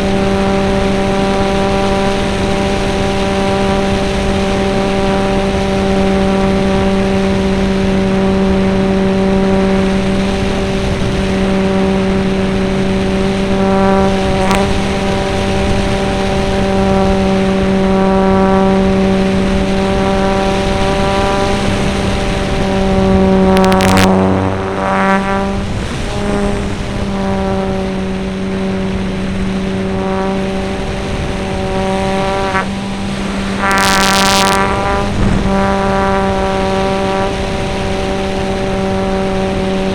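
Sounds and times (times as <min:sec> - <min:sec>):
bursts of noise: 0:00.0 - 0:39.9
model airplane motor droning: 0:00.0 - 0:39.9.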